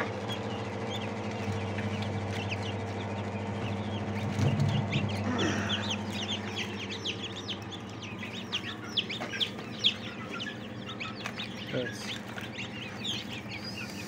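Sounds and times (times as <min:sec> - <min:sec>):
chicks peeping: 0:00.0 - 0:14.0
fan humming: 0:00.0 - 0:14.0.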